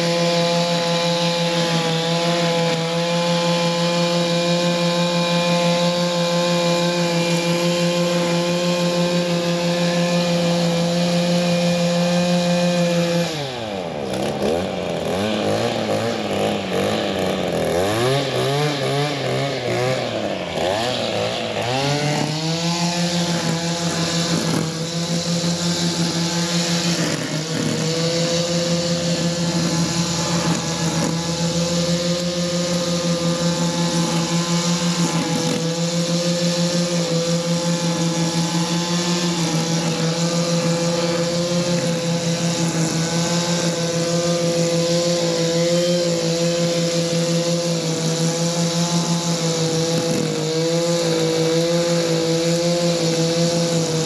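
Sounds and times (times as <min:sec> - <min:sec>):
string trimmer engine at high speed: 0:00.0 - 0:54.0.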